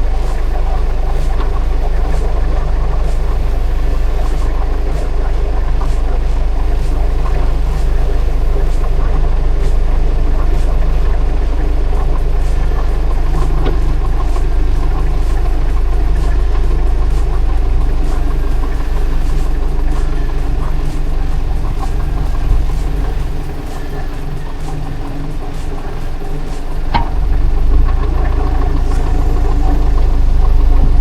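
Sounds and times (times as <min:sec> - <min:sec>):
engine running at low revs: 0:00.0 - 0:31.0.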